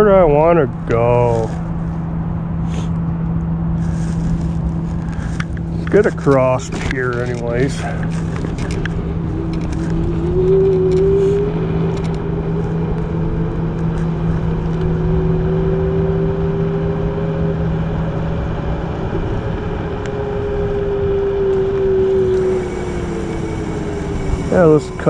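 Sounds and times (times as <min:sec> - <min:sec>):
road and wind noise: 0:00.0 - 0:25.0
electric scooter motor whining: 0:03.7 - 0:25.0.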